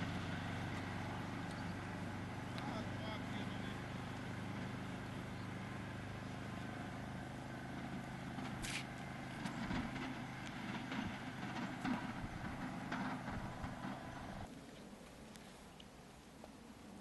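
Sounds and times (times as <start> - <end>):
engine running at low revs: 0.0 - 14.5.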